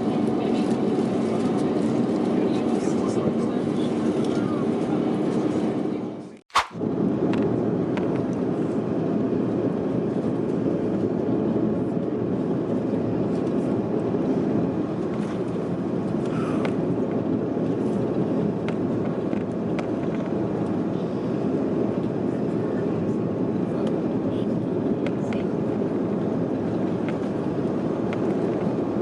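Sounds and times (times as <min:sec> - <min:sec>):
airliner cabin engine roar: 0:00.0 - 0:29.0.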